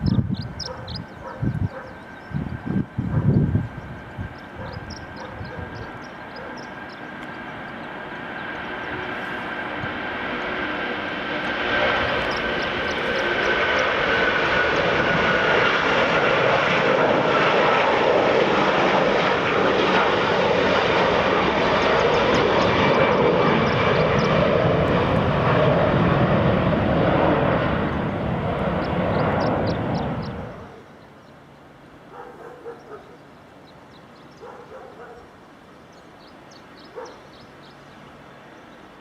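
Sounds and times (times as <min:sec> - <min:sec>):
high engine whine: 0:00.0 - 0:32.1
airliner engines running: 0:00.0 - 0:39.0.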